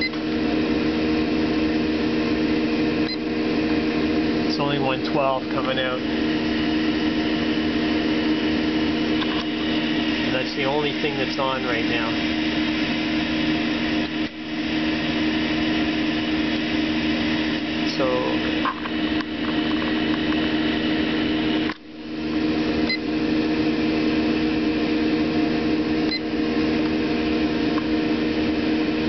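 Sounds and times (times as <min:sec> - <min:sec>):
water heater humming: 0:00.0 - 0:29.0.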